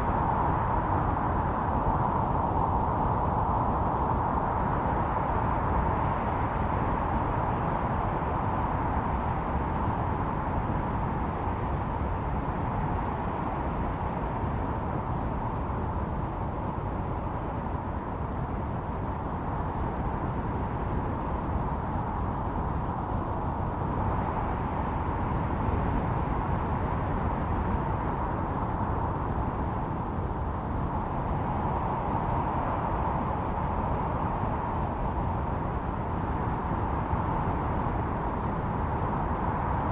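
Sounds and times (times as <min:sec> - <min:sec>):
wind howling and whistling: 0:00.0 - 0:39.9.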